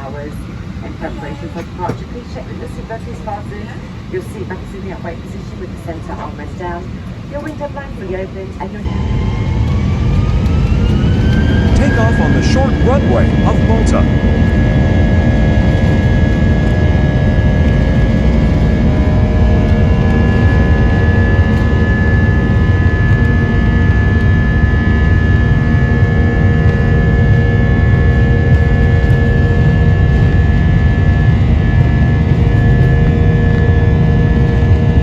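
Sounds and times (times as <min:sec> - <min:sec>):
high engine whine: 0:00.0 - 0:35.0
jet engines roaring in cabin: 0:00.0 - 0:35.0.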